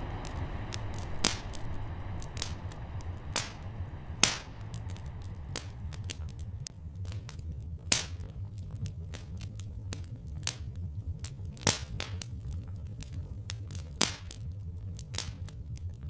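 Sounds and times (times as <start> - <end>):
low rumble: 0.0 - 16.0
wood fire crackling: 0.0 - 16.0.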